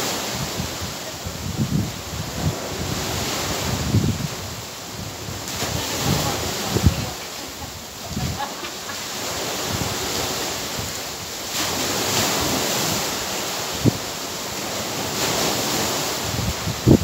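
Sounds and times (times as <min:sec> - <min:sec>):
sea surf washing ashore: 0:00.0 - 0:17.0
wind buffeting microphone: 0:00.0 - 0:17.0.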